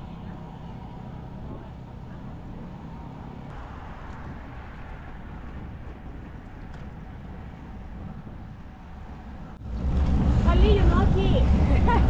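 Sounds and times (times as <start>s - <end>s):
bicycle road noise: 0.0s - 12.0s
wind noise: 0.0s - 12.0s.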